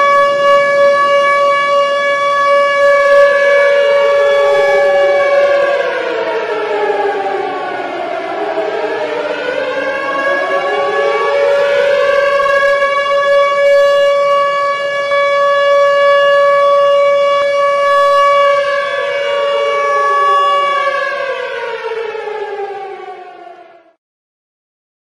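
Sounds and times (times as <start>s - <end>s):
air raid siren wailing: 0.0s - 24.0s.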